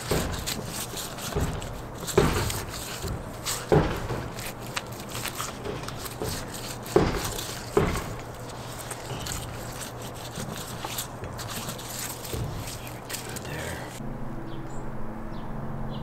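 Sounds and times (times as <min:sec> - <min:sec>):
hand rustling and smearing: 0:00.0 - 0:14.0
steady low hum: 0:00.0 - 0:16.0.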